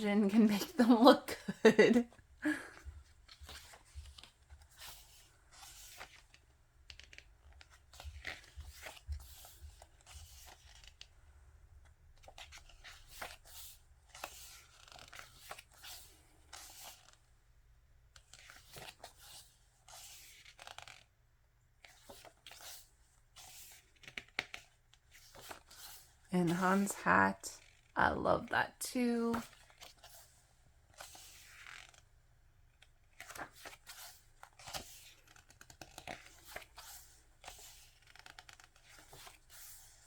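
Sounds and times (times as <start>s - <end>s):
photo book pages turning: 2.7s - 11.1s, 11.8s - 17.3s, 18.1s - 28.0s, 29.3s - 40.0s.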